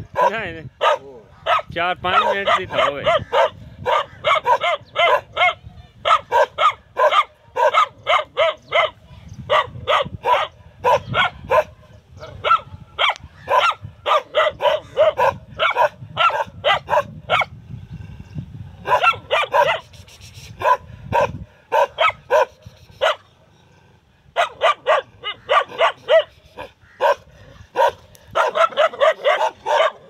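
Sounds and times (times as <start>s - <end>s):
dog barking: 0.1s - 17.5s, 18.8s - 19.9s, 20.6s - 23.2s, 24.4s - 30.0s.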